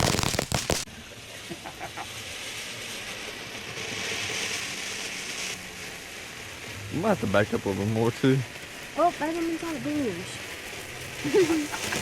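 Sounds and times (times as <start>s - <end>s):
firework crackling pops: 0.0s - 12.0s
hissing spray of sparks: 0.0s - 12.0s.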